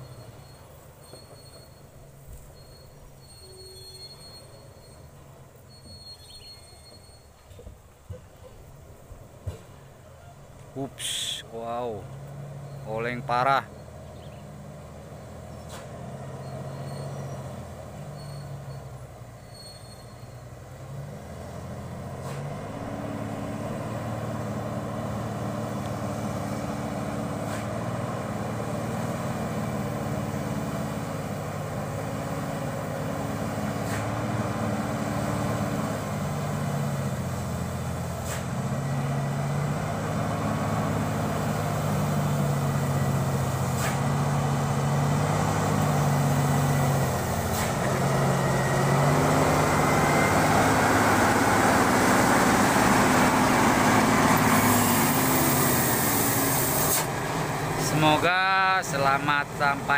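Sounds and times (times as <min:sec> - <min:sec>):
truck diesel engine: 0:00.0 - 0:59.9.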